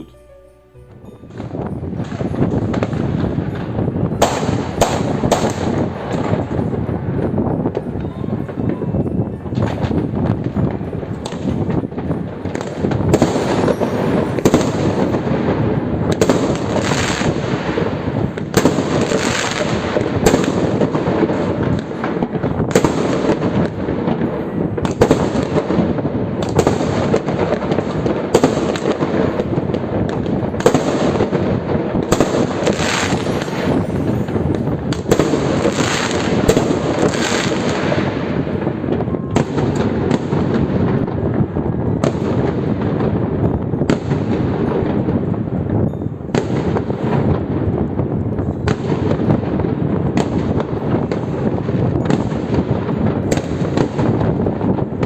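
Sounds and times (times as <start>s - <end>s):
fireworks bangs and crackles: 1.0s - 55.0s.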